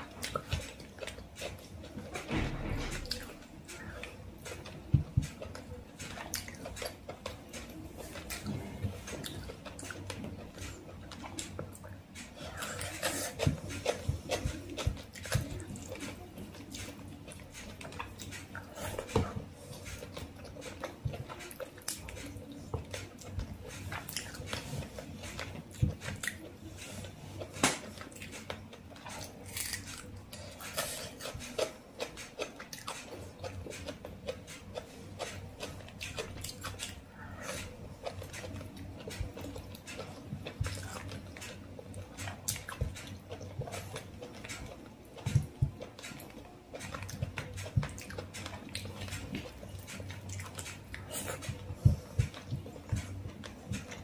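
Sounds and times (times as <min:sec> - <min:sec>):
chewing and lip smacking: 0:00.0 - 0:54.0.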